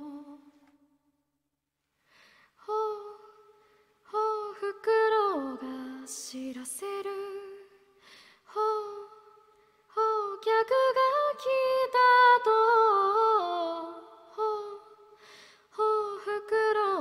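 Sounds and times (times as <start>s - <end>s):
woman singing a cappella: 0.0s - 0.6s, 2.6s - 17.0s.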